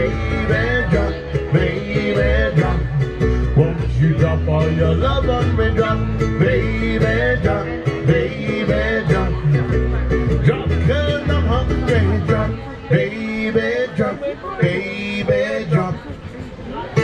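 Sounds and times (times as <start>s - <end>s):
strummed acoustic guitar: 0.0s - 17.0s
upright bass plucking: 0.0s - 17.0s.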